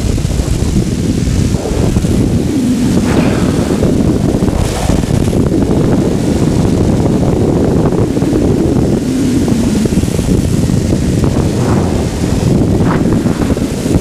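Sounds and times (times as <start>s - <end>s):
aircraft low rumble: 0.0s - 14.0s
wind buffeting microphone: 0.0s - 14.0s.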